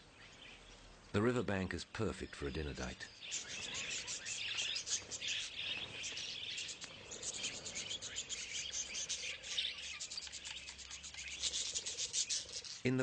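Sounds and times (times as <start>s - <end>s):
budgerigars chattering: 2.0s - 13.0s.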